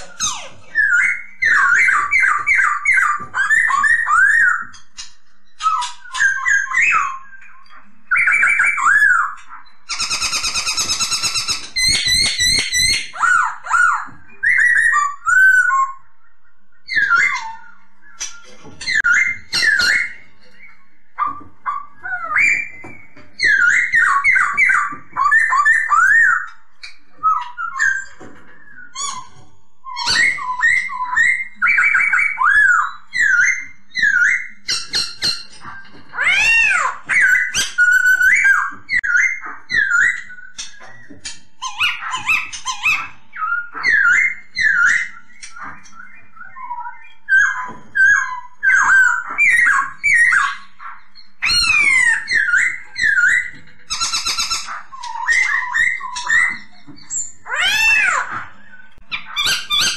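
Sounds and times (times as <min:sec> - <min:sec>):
bird singing whistled phrases: 0:00.0 - 0:04.8, 0:05.5 - 0:59.9.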